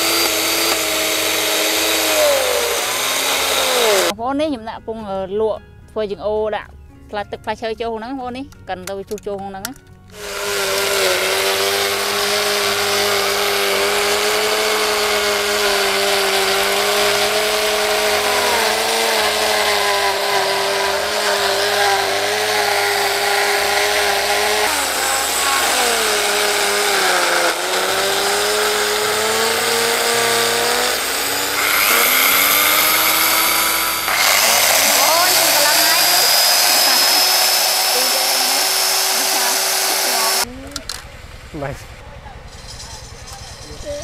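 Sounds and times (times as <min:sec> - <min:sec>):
power tool motor running: 0:00.0 - 0:04.1, 0:10.1 - 0:41.7.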